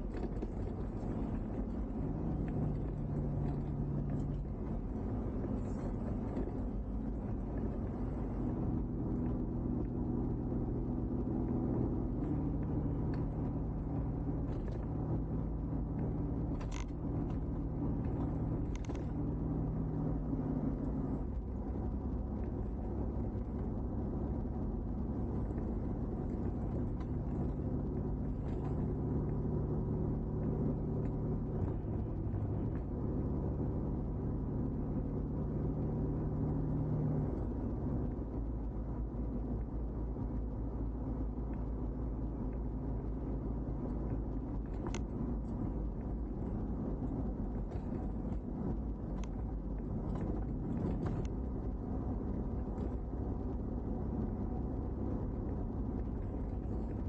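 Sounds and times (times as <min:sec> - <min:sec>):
car engine running: 0:00.0 - 0:57.0
tyre and road rumble: 0:00.0 - 0:57.0.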